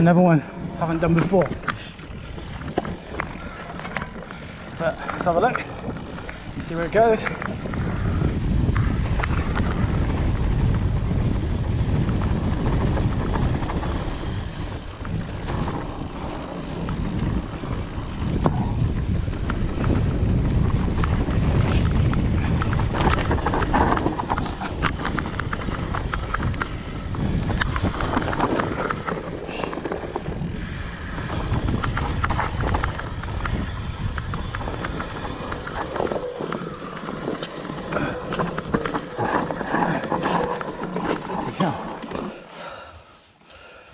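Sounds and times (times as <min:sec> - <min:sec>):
bike rattling and knocking: 0:00.0 - 0:42.8
bike tyres rumbling over dirt: 0:00.0 - 0:42.9.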